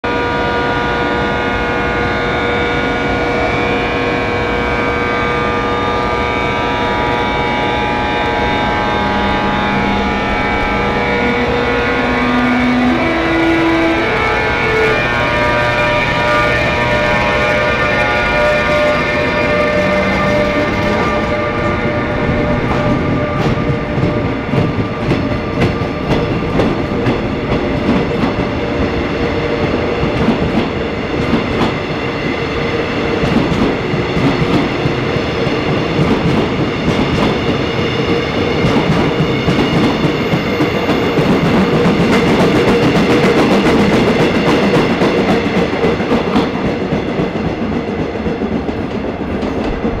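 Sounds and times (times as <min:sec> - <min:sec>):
train wheels banging: 0:02.8 - 0:50.0.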